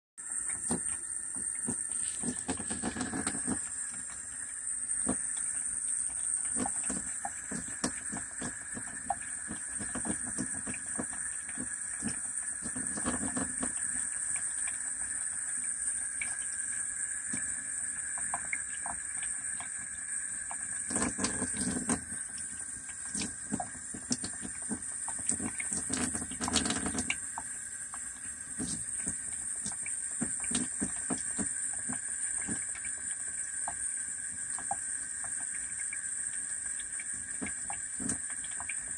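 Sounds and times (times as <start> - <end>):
faucet running water: 0.2 - 38.9
water dripping and pattering: 0.2 - 38.9.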